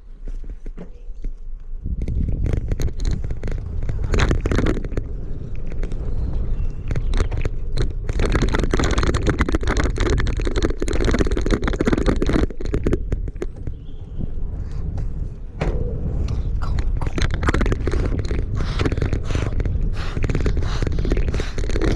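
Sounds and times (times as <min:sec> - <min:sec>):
bicycle tyres crackling and scraping: 0:00.0 - 0:21.9
wind rumbling on microphone: 0:00.0 - 0:21.9.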